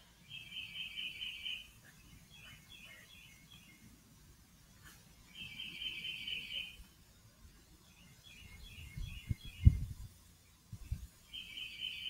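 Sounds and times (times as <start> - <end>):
songbird trills: 0.1 - 4.0, 4.8 - 12.0
bird chirps: 0.2 - 4.0, 4.8 - 7.0, 7.8 - 12.0.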